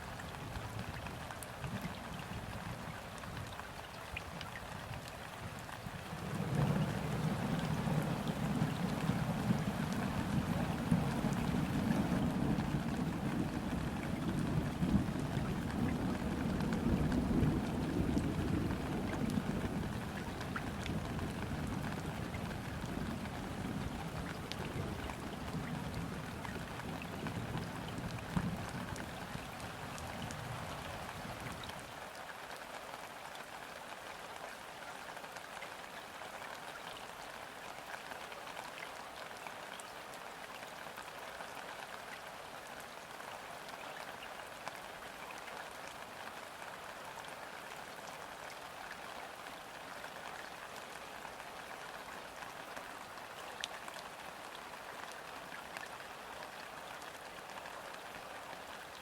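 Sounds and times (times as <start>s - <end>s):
rain falling on water: 0.0s - 59.0s.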